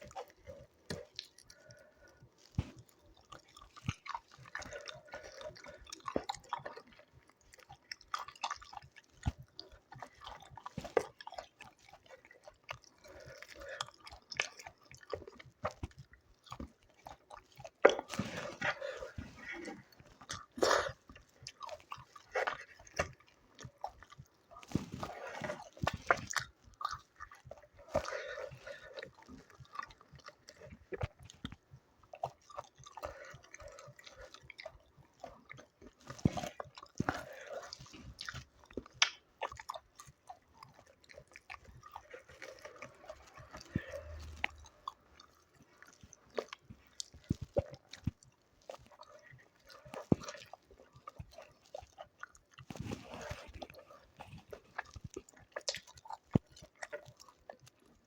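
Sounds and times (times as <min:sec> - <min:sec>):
person chewing and biting: 0:00.0 - 0:58.0.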